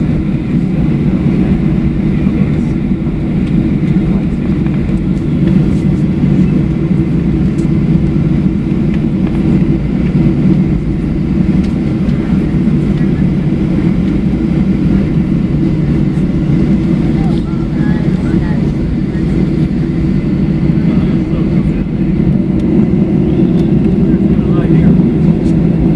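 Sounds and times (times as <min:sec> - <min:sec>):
airplane cabin rumble while taxiing: 0:00.0 - 0:25.9.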